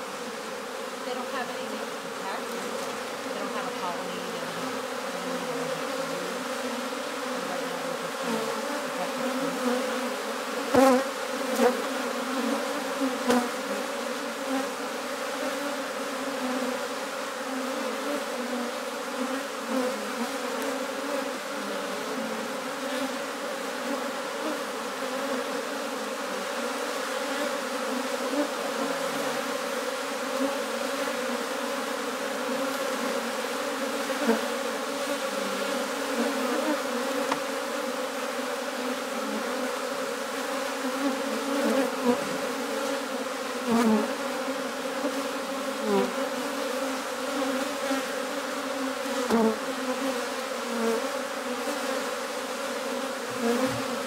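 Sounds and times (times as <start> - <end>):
bee swarm buzzing: 0.0 - 54.0.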